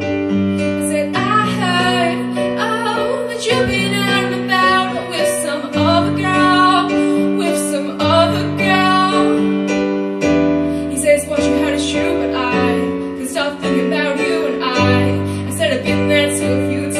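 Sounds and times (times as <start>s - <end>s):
piano chords: 0.0s - 16.9s
young woman singing: 0.8s - 9.9s, 10.8s - 16.9s.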